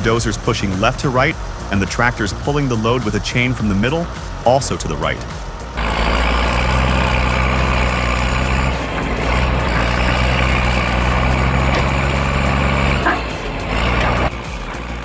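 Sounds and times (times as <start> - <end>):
heavy diesel engines running: 0.0 - 15.0.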